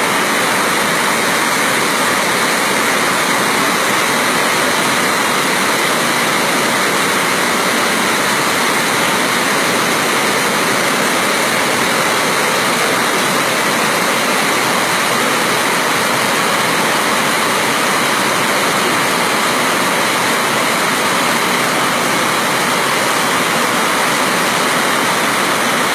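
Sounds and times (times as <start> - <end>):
floodwater rushing: 0.0 - 25.9.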